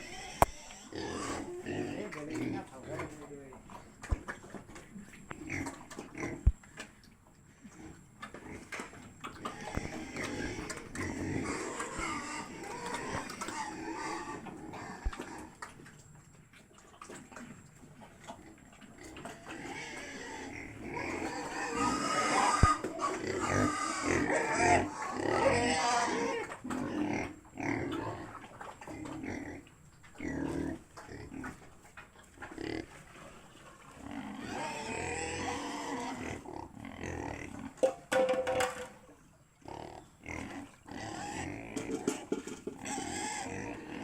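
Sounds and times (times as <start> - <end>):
pigs grunting and squealing: 0.0 - 7.0, 7.6 - 15.9, 16.8 - 44.0.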